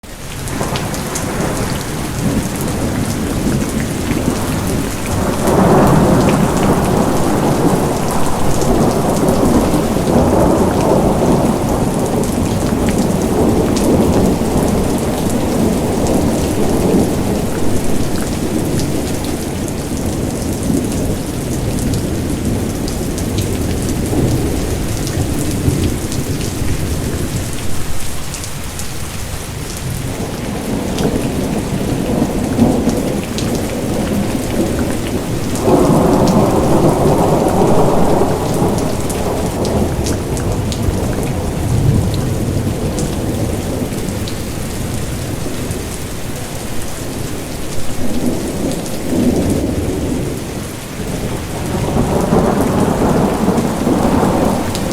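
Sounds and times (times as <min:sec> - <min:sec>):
raindrops pattering: 0:00.0 - 0:54.9
steady rain: 0:00.0 - 0:54.9
thunder rolling: 0:00.5 - 0:28.2, 0:29.8 - 0:54.9.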